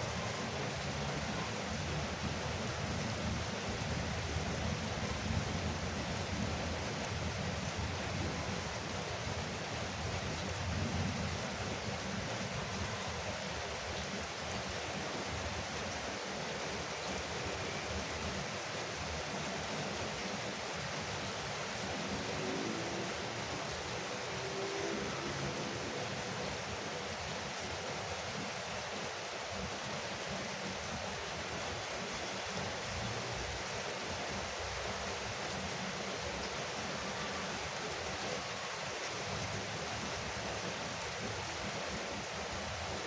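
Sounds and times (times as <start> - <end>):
heavy rain on a roof: 0.0 - 43.0.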